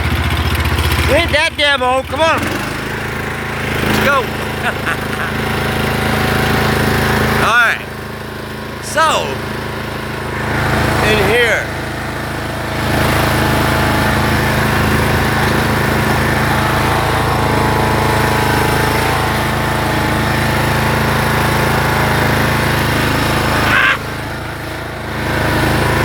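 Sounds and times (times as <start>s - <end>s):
lawnmower engine running: 0.0s - 26.0s.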